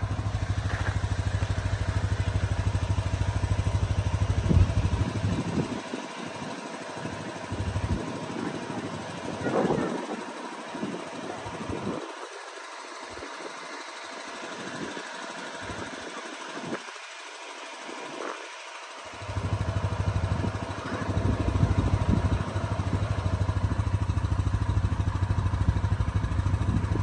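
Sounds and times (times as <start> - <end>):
quiet street noise: 0.0 - 27.0
vehicle engine idling: 0.0 - 27.0.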